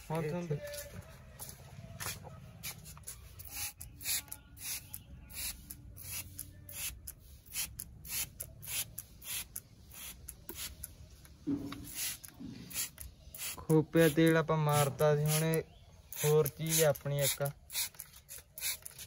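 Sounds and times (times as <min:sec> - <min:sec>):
spray bottle hissing spurts: 0:02.6 - 0:19.0.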